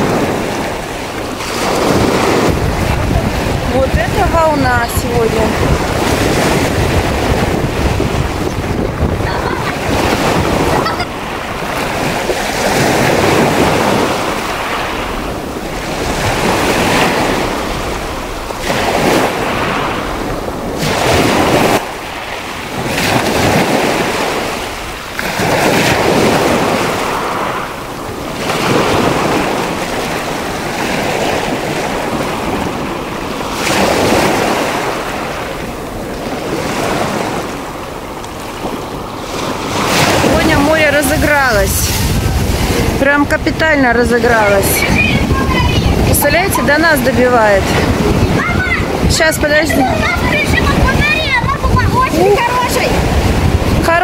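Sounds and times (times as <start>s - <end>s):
waves breaking against seawall: 0.0s - 54.0s.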